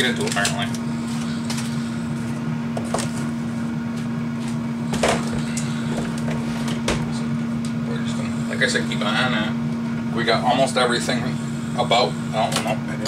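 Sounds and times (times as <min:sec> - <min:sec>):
air fryer humming: 0:00.0 - 0:13.0.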